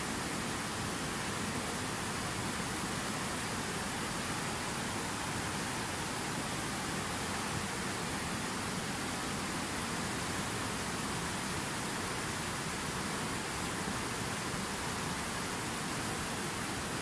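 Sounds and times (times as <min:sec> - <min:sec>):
river rushing over boulders: 0:00.0 - 0:17.0.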